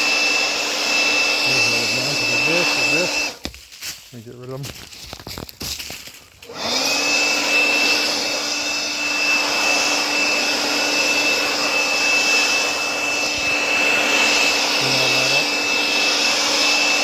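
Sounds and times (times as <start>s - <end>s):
leaf blower whine: 0.0s - 3.6s, 5.6s - 17.0s.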